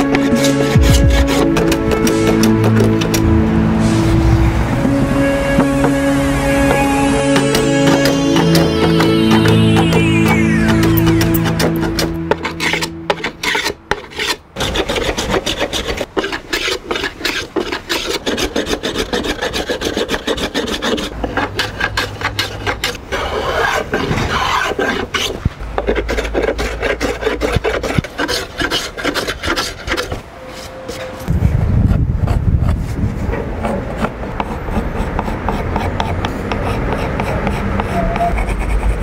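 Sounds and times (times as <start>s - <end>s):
sanding block rasping on wood: 0.0s - 3.2s, 6.7s - 31.1s, 32.2s - 39.0s
hand plane shaving wood: 0.0s - 3.3s, 6.6s - 31.3s, 32.7s - 39.0s.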